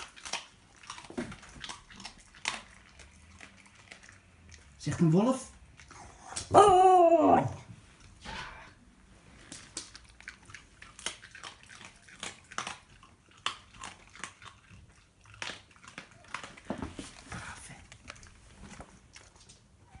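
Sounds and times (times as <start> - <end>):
dog chewing and crunching: 0.0 - 6.3, 9.4 - 19.8.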